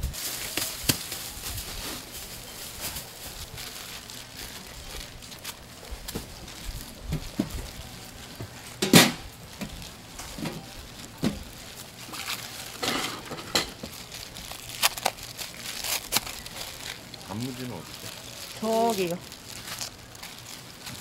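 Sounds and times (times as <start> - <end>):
soft rustling: 0.1 - 21.0.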